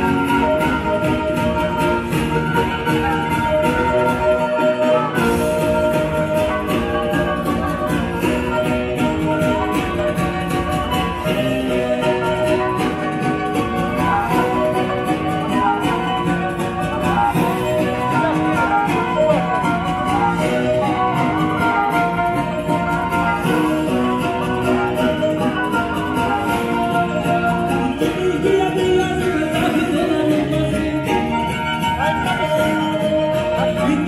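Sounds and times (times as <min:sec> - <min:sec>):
amplified fiddle dance tune: 0:00.0 - 0:34.0.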